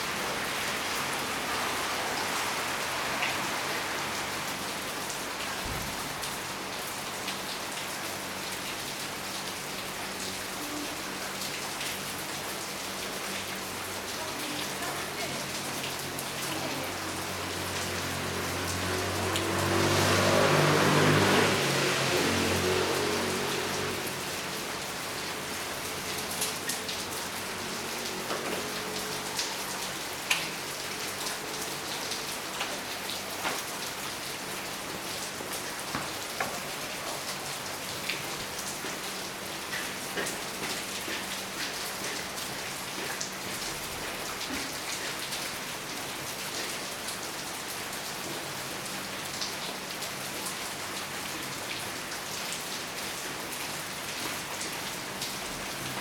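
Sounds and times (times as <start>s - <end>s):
raindrops ticking on surfaces: 0.0s - 56.0s
steady rain falling: 0.0s - 56.0s.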